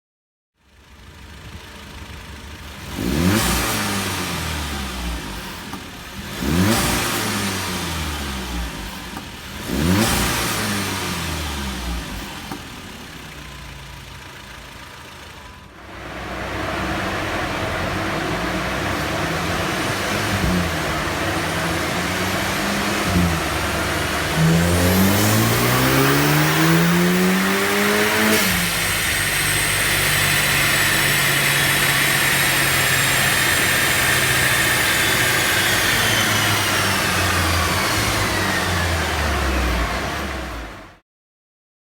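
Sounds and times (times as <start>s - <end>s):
car engine revving: 0.8s - 41.0s
high turbo whine: 1.3s - 40.9s.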